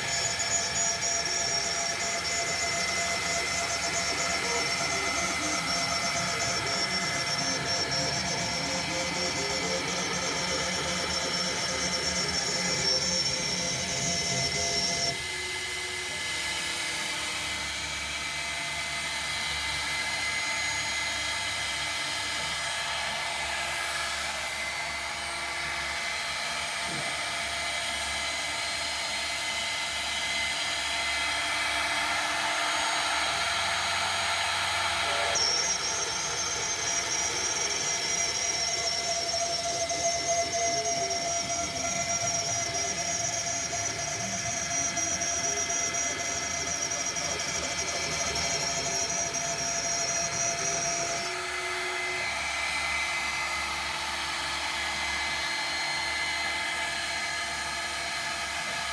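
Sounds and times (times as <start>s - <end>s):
cnc router spindle whining: 0.0s - 58.9s.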